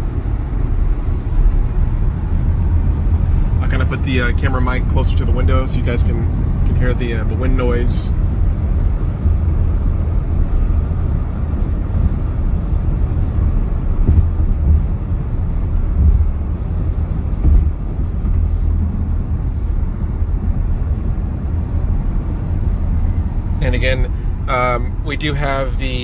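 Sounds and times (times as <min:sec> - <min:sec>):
car cabin wind and road noise: 0:00.0 - 0:26.0.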